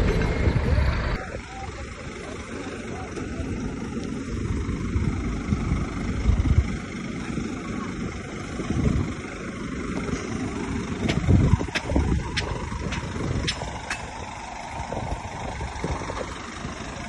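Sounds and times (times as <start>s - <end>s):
heavy machinery diesel rumble: 0.0s - 17.0s.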